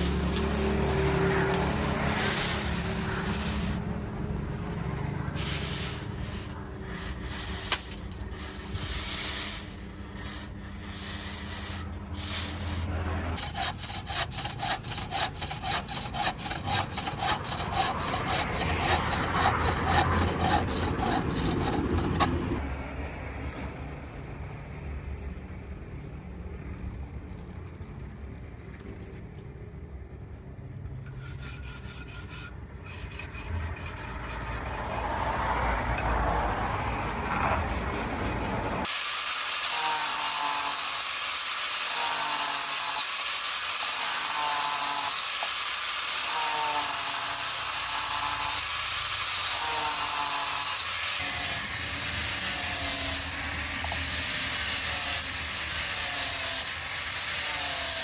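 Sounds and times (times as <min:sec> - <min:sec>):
rasping sawing or filing strokes: 0:00.0 - 0:03.8, 0:05.4 - 0:22.6, 0:31.1 - 0:58.0.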